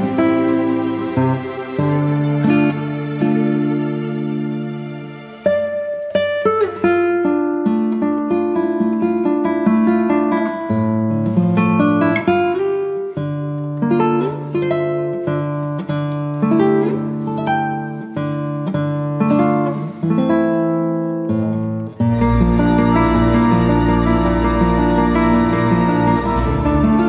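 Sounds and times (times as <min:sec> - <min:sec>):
plucked acoustic guitar music: 0:00.0 - 0:27.0.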